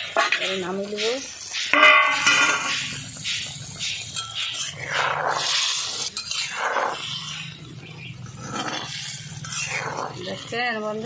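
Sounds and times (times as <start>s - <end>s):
curry bubbling in a pan: 0.0s - 11.0s
spatula stirring and scraping: 0.0s - 11.0s.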